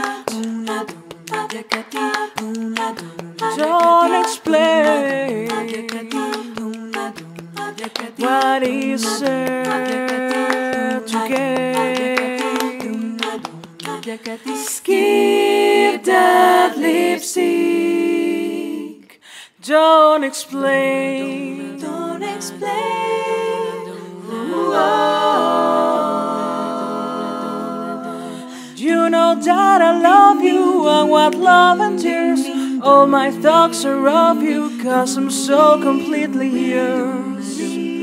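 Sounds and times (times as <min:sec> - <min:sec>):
women singing a cappella: 0:00.0 - 0:38.0.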